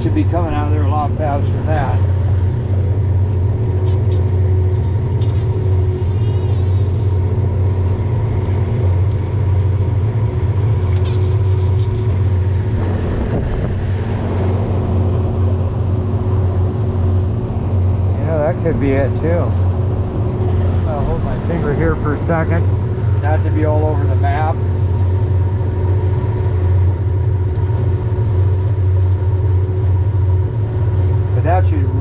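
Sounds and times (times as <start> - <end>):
outboard motor running: 0.0 - 32.0
wash of noise: 0.0 - 32.0.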